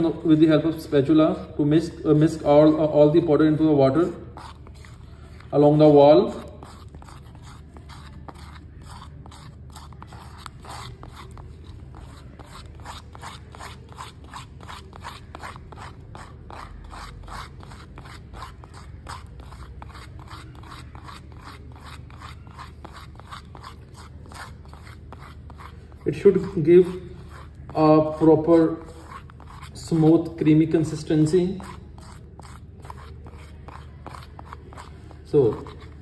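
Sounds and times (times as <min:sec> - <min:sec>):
spatula scraping rubber bowl: 0:00.0 - 0:36.0.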